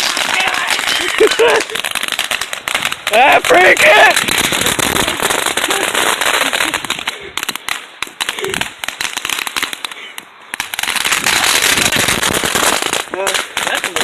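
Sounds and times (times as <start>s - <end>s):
firecrackers popping: 0.0s - 14.0s.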